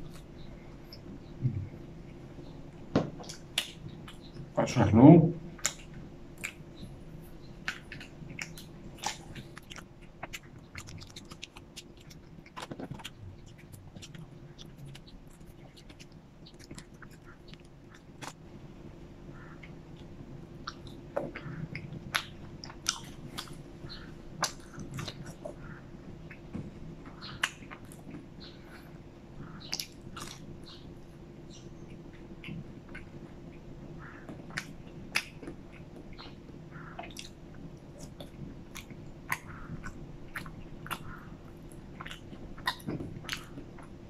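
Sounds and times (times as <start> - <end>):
chewing french fries: 0.0 - 5.0, 5.6 - 44.0
faint low hum: 0.0 - 44.0.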